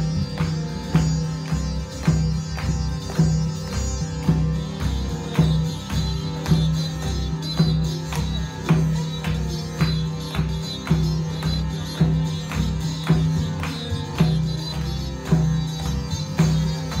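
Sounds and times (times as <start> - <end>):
hand drum beat: 0.0 - 17.0
harmonium: 0.0 - 17.0
jingling hand percussion: 0.0 - 17.0.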